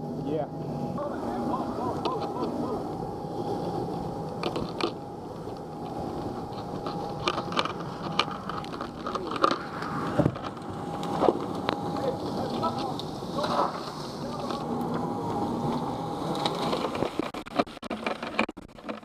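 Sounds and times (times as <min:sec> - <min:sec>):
mechanical running noise: 0:00.0 - 0:19.0.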